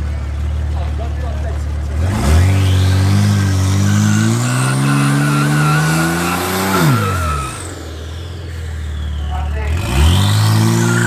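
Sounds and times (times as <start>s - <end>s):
car engine at high revs: 0.0s - 11.0s
tyres spinning in a burnout: 0.0s - 11.0s.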